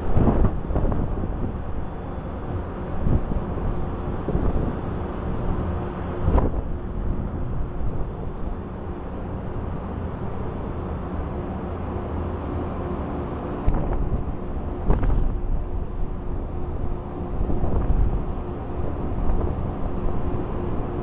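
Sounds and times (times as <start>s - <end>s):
wind buffeting microphone: 0.0s - 10.5s, 13.6s - 21.0s
steady low hum: 0.0s - 21.0s.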